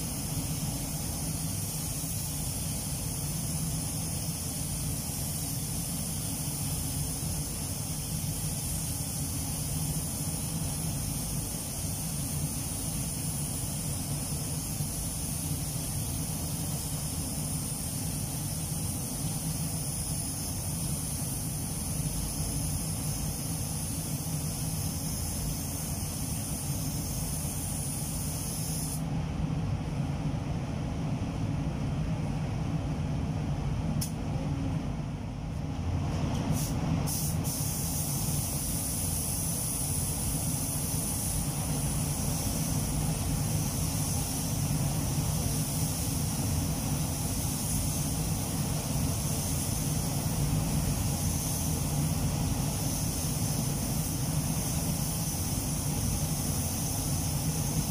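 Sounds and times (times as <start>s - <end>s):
spray gun hissing: 0.0s - 29.0s, 36.5s - 57.9s
ventilation running: 0.0s - 57.9s.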